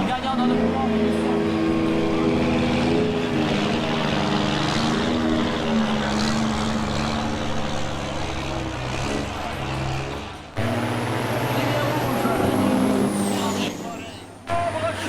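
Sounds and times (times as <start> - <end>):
diesel truck engine running hard: 0.0 - 15.0.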